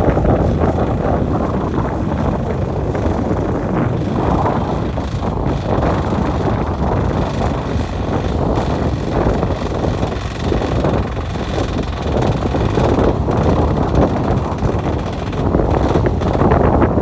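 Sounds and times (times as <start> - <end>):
boat motor running: 0.0 - 17.0
wind buffeting microphone: 0.0 - 17.0.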